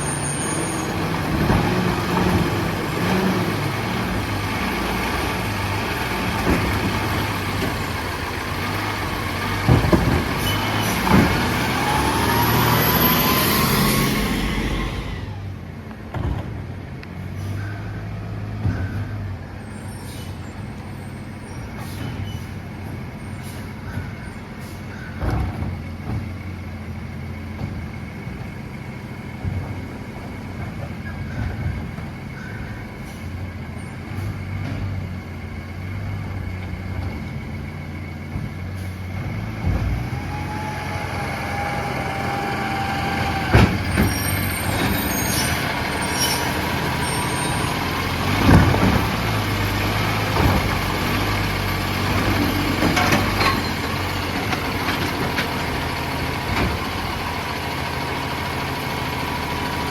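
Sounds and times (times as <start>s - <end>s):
garbage truck engine droning: 0.0s - 59.9s.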